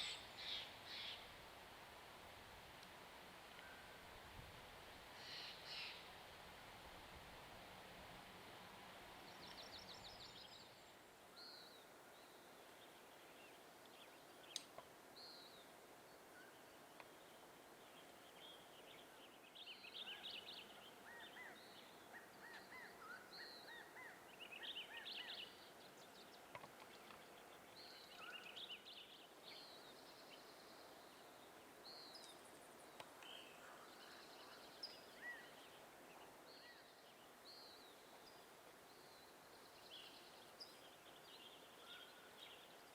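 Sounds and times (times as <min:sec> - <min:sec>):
faint forest ambience hiss: 0:00.0 - 0:42.9.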